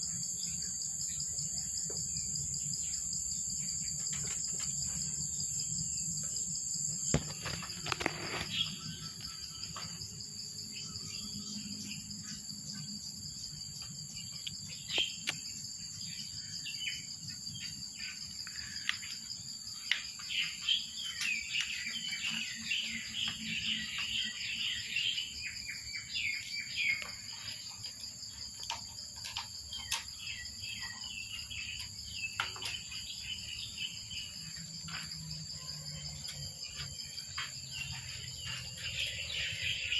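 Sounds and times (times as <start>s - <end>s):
birds chirping: 0.0s - 39.9s
high-pitched insect drone: 0.0s - 39.9s.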